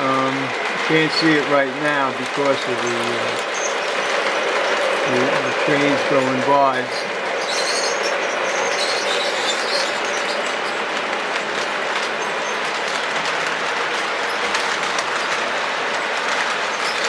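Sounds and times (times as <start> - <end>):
model train wheels clattering: 0.0 - 17.0.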